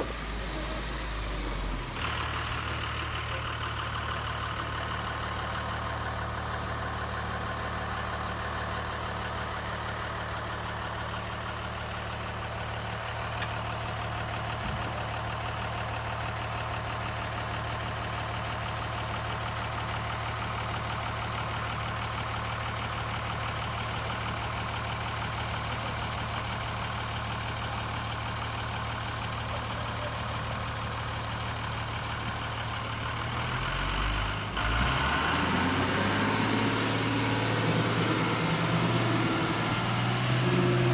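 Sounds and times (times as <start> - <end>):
engine-like hum: 0.0 - 40.9.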